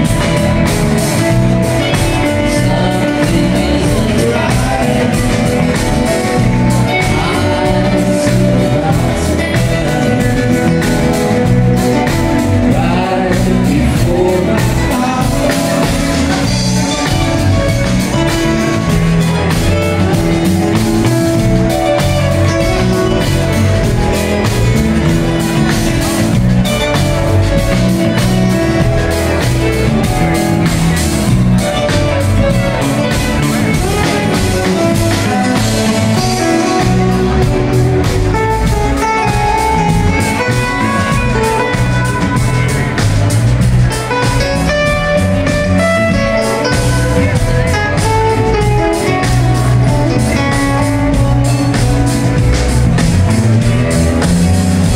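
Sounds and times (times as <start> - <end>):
live band playing: 0.0 - 54.9.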